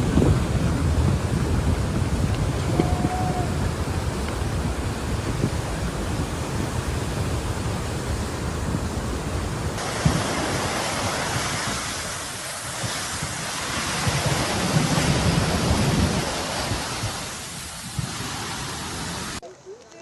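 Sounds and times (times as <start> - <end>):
storm wind rushing: 0.0 - 19.4
wind buffeting microphone: 0.0 - 19.4.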